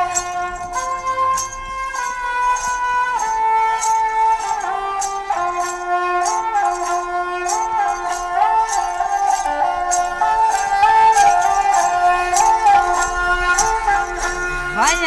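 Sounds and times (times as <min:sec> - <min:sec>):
sliding melody of held notes: 0:00.0 - 0:15.0.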